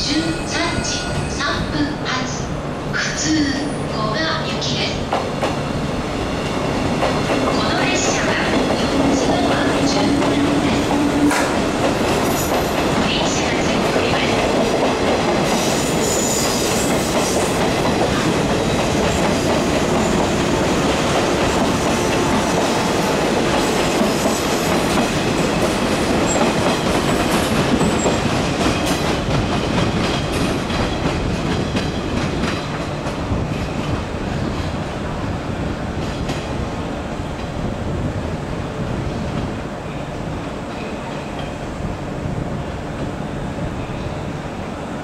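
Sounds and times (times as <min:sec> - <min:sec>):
electric train running past: 0:00.0 - 0:45.0.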